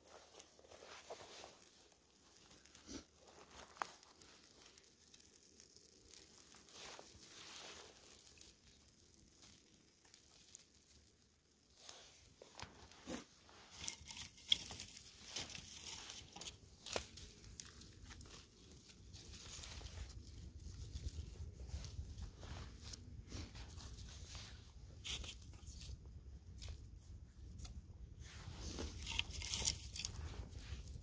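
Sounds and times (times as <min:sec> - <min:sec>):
material rustling and crinkling: 0:00.0 - 0:31.0.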